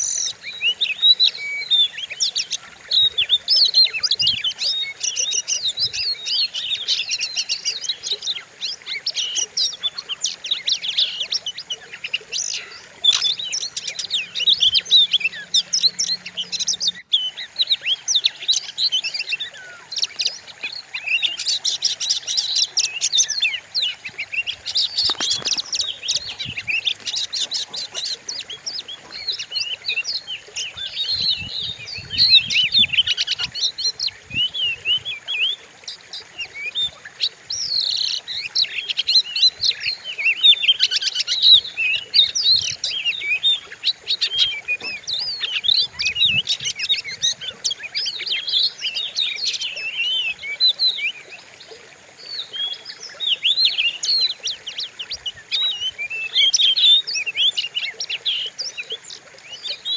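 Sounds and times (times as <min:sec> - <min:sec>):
bird singing chirps and whistles: 0:00.0 - 0:35.6, 0:37.6 - 0:51.3.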